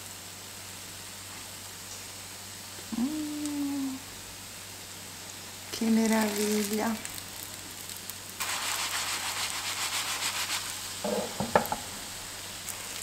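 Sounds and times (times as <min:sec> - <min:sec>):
fritters sizzling in butter: 0:00.0 - 0:13.0.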